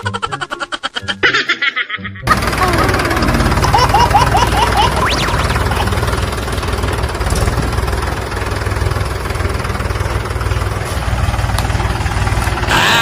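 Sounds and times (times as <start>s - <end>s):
tractor engine chugging: 2.3s - 13.0s.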